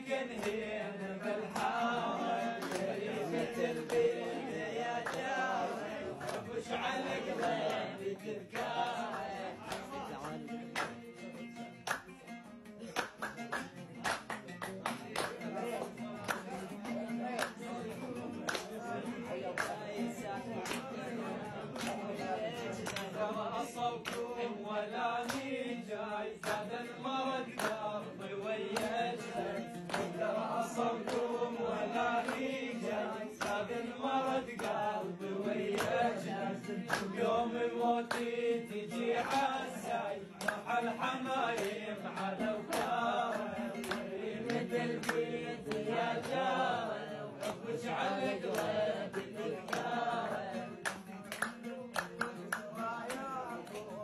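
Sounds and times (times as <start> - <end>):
men singing in a chanting style: 0.0 - 11.2, 14.9 - 54.0.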